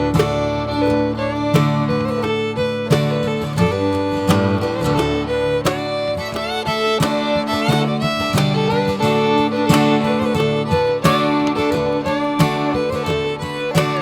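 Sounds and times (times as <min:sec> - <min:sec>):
upbeat country tune: 0:00.0 - 0:14.0.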